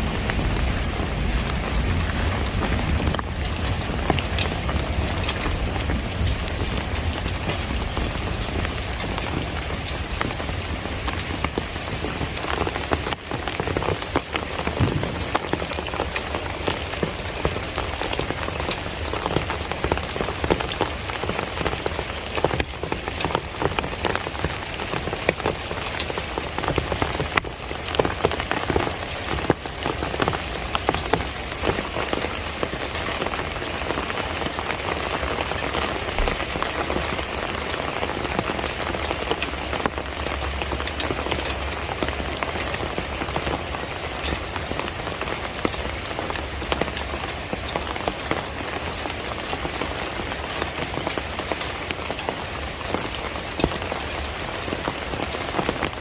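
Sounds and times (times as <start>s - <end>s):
heavy rain hiss: 0.0s - 56.0s
raindrops pattering on surfaces: 0.0s - 56.0s.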